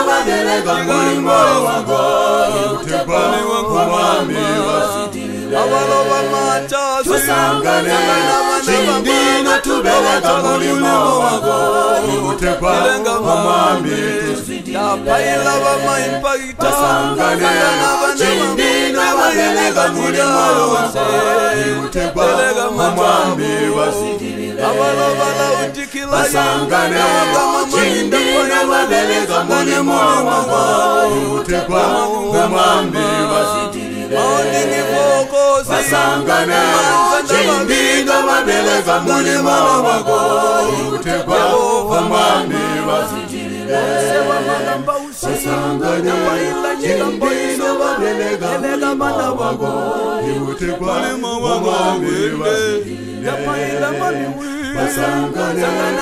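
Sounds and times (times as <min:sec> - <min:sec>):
mixed choir singing a cappella: 0:00.0 - 0:56.0.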